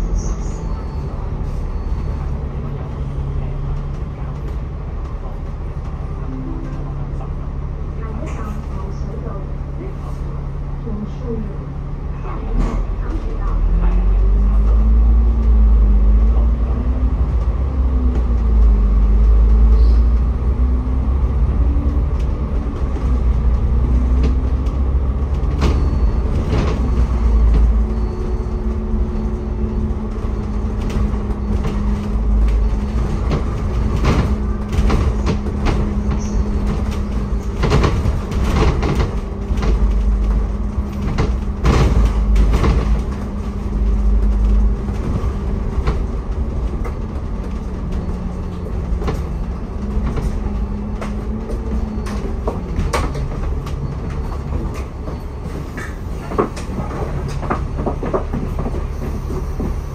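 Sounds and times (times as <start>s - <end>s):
vehicle cabin rumble and motor: 0.0s - 59.9s.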